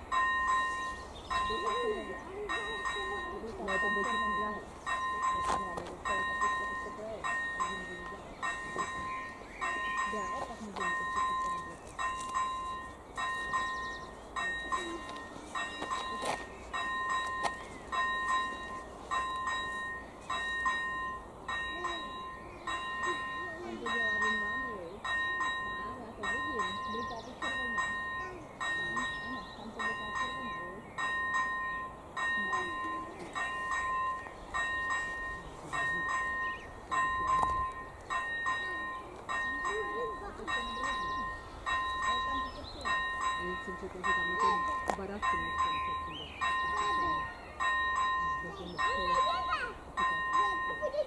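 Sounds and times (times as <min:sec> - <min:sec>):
level-crossing bell ringing: 0:00.0 - 0:51.0.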